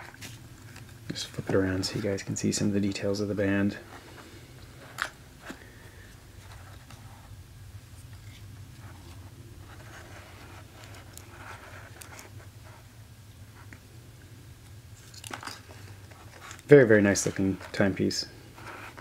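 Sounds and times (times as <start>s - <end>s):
soft rubbing and scratching: 0.0s - 13.8s, 15.0s - 19.0s
steady low hum: 0.0s - 19.0s.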